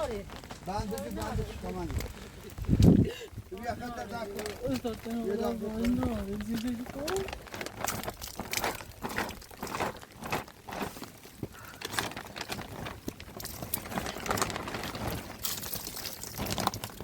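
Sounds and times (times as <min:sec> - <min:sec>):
rustling and crinkling: 0:00.0 - 0:17.0.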